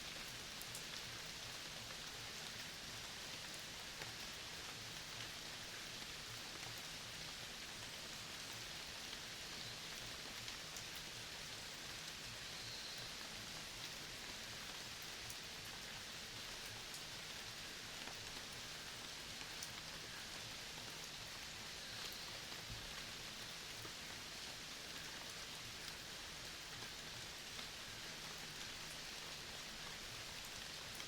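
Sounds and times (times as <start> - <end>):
faint forest ambience hiss: 0.0 - 31.0.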